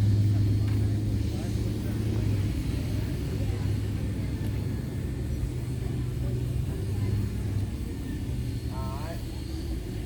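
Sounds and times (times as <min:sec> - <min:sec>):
engine running low rumble: 0:00.0 - 0:10.0.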